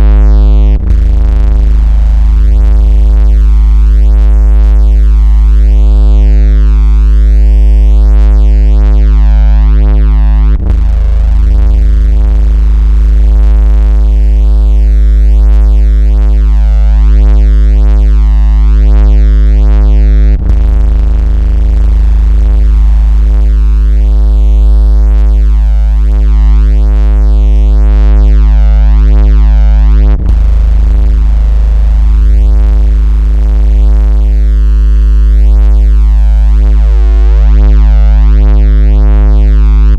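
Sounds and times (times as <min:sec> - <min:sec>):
deep synthesized bass tone: 0:00.0 - 0:39.9.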